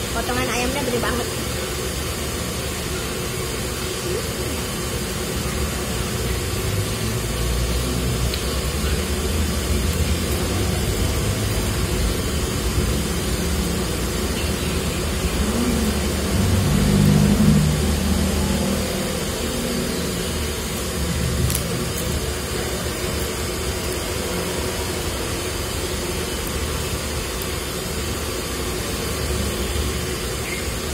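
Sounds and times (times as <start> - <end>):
low mechanical rumble: 0.0 - 30.9.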